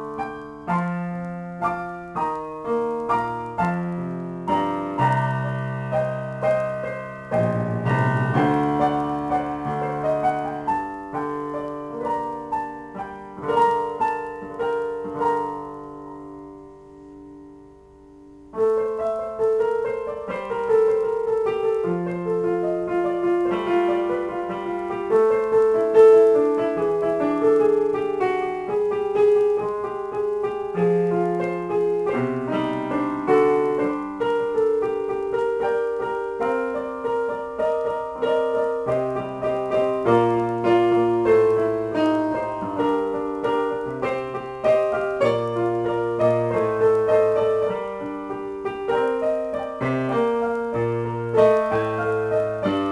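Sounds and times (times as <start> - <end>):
electronic keyboard piano melody: 0.0 - 52.9.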